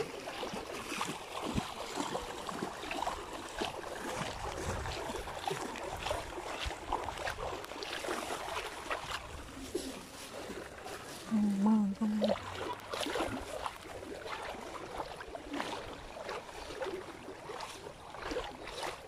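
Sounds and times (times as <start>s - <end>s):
wading through water sloshing: 0.0s - 19.0s.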